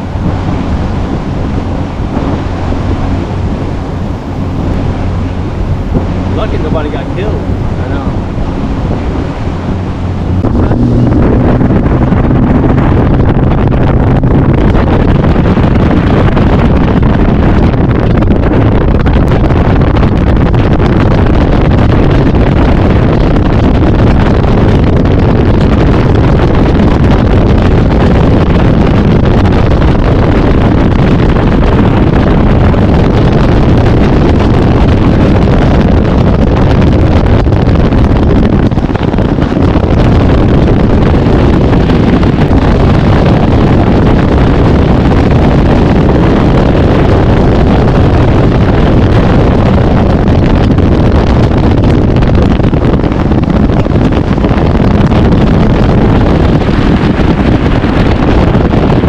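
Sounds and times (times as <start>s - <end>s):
boat hull on water: 0.0s - 59.0s
outboard motor: 0.0s - 59.0s
wind on microphone: 0.0s - 59.0s.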